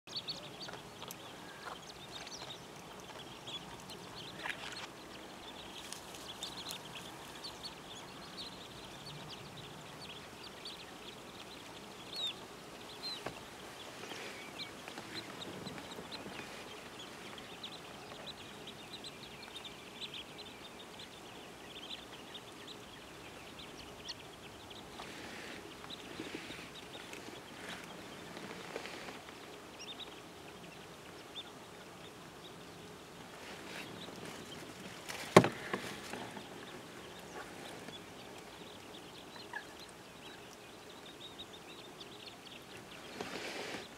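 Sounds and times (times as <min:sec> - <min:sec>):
birds chirping and twittering: 0:00.1 - 0:43.9
faint steady hiss: 0:00.1 - 0:43.9.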